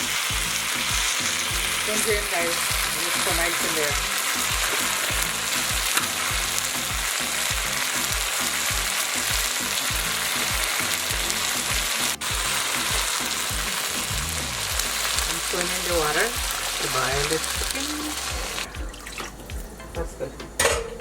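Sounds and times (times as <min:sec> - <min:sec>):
curry sizzling in hot oil: 0:00.0 - 0:20.2.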